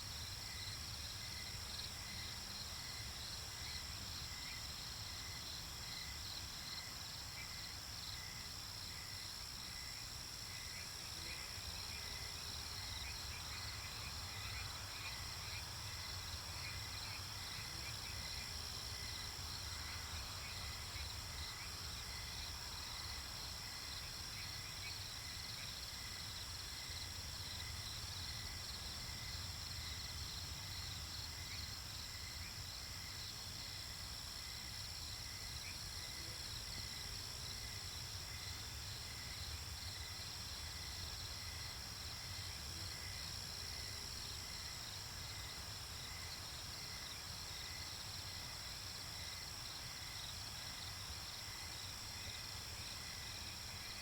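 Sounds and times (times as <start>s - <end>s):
crickets and insects chirping: 0.0s - 54.0s.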